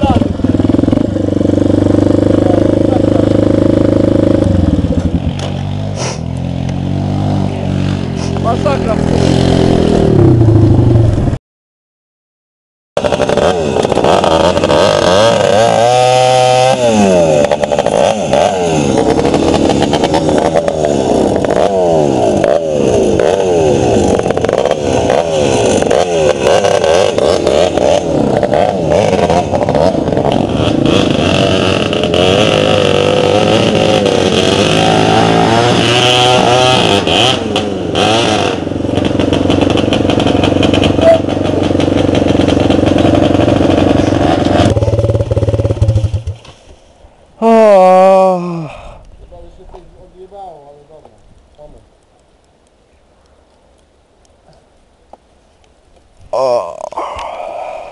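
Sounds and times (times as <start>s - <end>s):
motorcycle engine revving: 0.0s - 11.4s, 13.0s - 48.4s.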